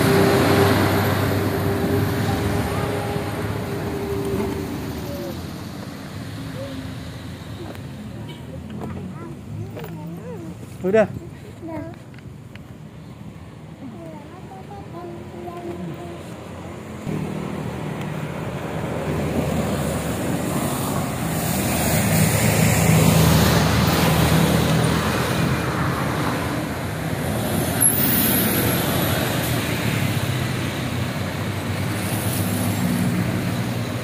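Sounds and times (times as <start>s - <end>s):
bus engine passing: 0.0s - 12.0s, 12.8s - 34.0s
passing motorcycles and cars: 0.0s - 34.0s.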